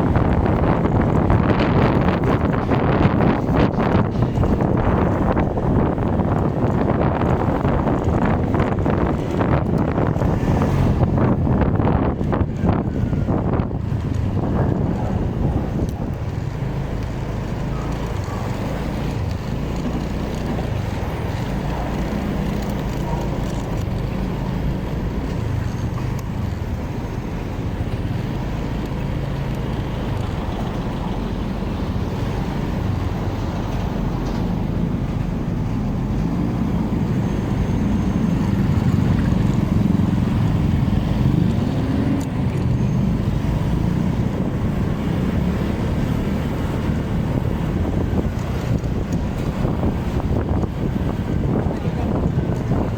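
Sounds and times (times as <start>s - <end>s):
road traffic: 0.0s - 52.9s.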